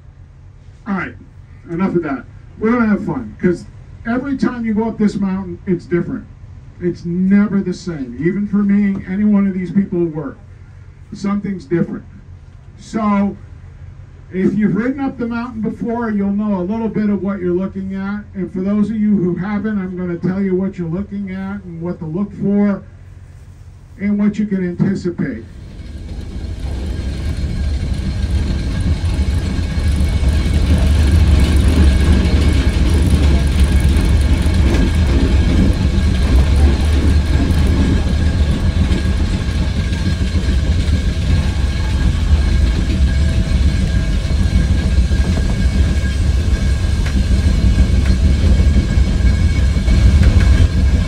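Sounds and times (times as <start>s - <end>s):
steam locomotive rumbling: 0.0s - 51.0s.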